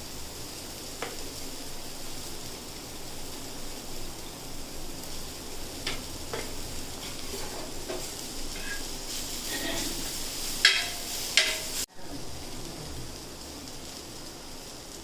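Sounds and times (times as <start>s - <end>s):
food frying sizzle: 0.0s - 15.0s.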